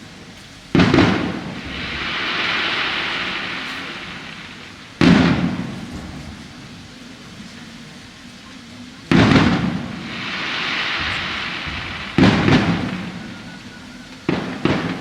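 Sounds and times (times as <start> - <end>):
crackling hiss: 0.0 - 15.0
fireworks shells booming: 0.7 - 7.3, 9.1 - 15.0.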